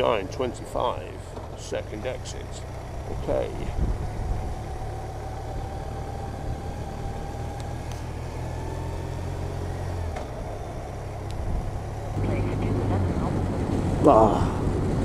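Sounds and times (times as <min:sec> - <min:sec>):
motorcycle engine running: 0:00.0 - 0:15.0
rush of riding noise: 0:00.0 - 0:15.0.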